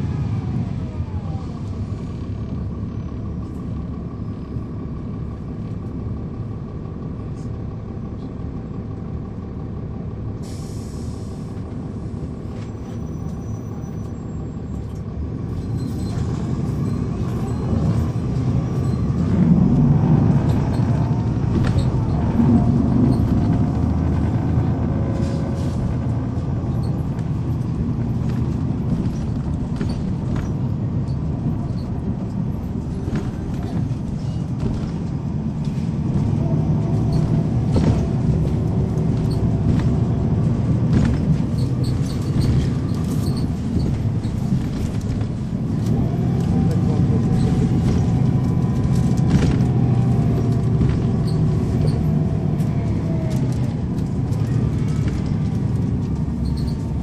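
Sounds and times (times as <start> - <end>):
bus diesel engine rumble: 0.0 - 57.0.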